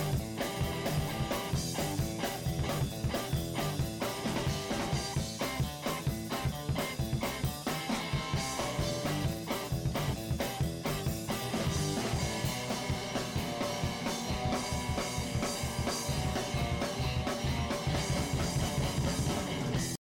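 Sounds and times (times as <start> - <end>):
drum kit beat: 0.0 - 20.0
rock guitar: 0.0 - 20.0.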